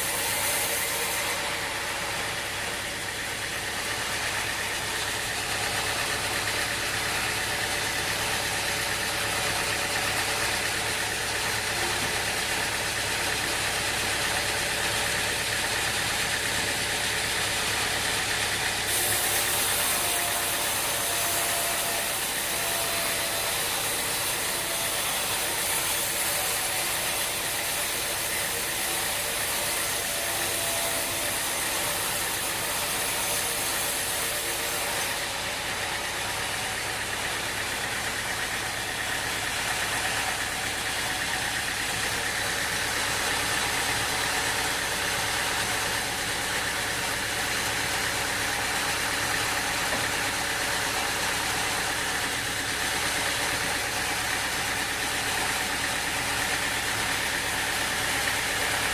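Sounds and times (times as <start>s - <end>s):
sawmill machinery drone: 0.0s - 58.9s.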